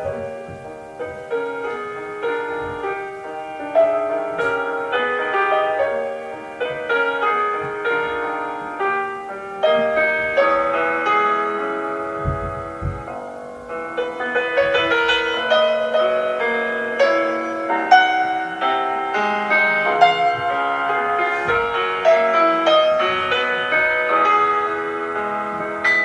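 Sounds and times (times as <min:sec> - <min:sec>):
solo piano melody: 0:00.0 - 0:26.0.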